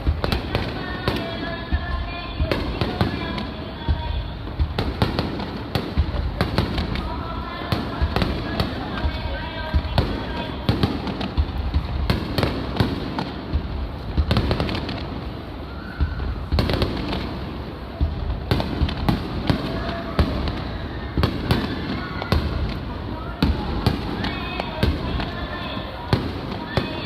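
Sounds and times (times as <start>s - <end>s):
firework booms: 0.0s - 27.0s
firework crackling: 0.0s - 27.0s.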